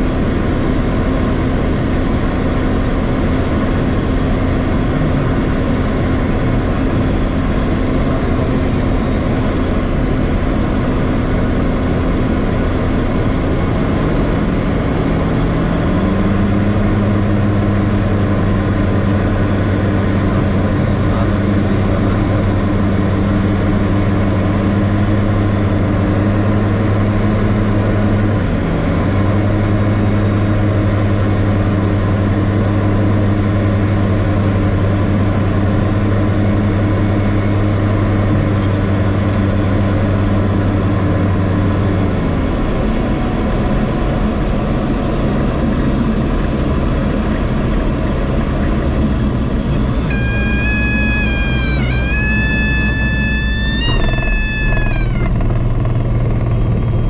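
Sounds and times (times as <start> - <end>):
aircraft engine and propeller droning: 0.0 - 57.0.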